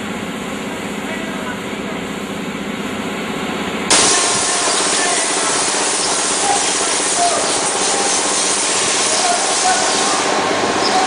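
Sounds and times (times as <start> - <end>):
loud mechanical rushing noise: 0.0 - 11.0.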